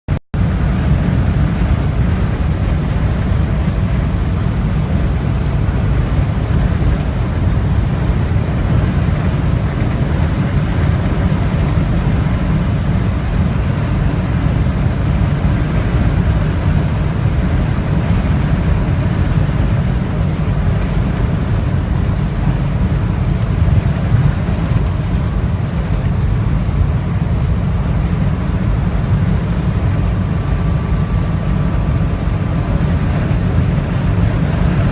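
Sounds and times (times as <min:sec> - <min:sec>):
wind buffeting microphone: 0:00.4 - 0:34.9.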